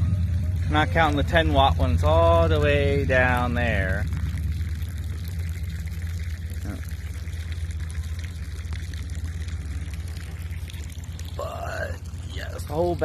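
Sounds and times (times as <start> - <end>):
constant low hum: 0.0 - 13.0
trickling water: 0.0 - 13.0.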